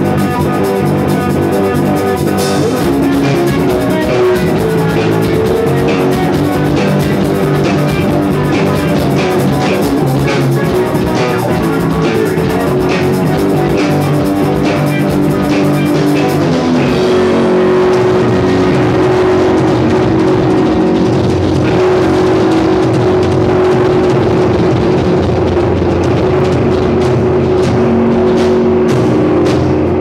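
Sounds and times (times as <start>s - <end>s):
drum kit beating: 0.0s - 30.0s
rock band playing: 0.0s - 30.0s.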